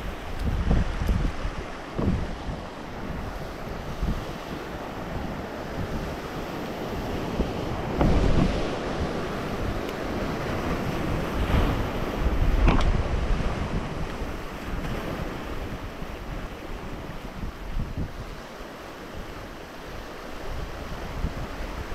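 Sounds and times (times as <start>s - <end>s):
ocean waves breaking on rocks: 0.0s - 21.9s
wind buffeting microphone: 0.0s - 21.9s.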